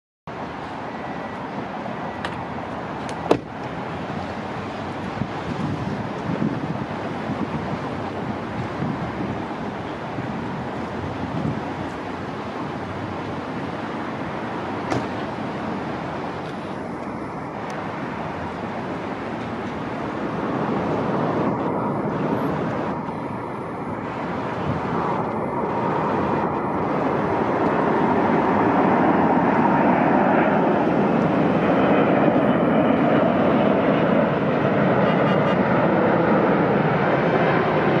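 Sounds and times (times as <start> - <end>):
airliner jet engine rumble: 0.3 - 38.0.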